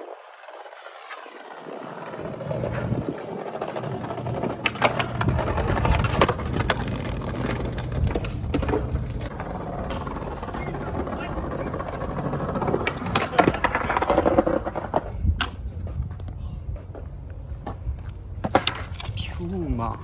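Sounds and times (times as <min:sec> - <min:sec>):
skateboard clacks: 0:00.0 - 0:19.2
skateboard wheels rolling on concrete: 0:00.0 - 0:20.0.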